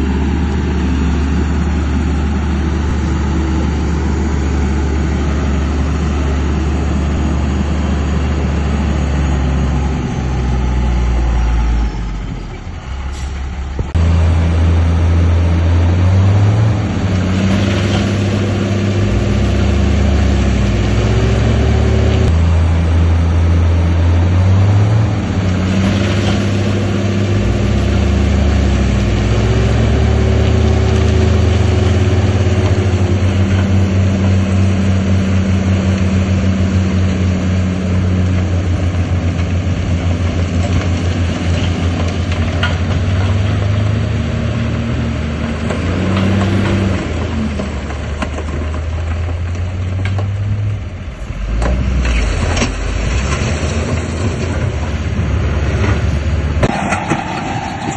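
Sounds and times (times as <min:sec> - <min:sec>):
heavy diesel machinery revving: 0:00.0 - 0:57.9.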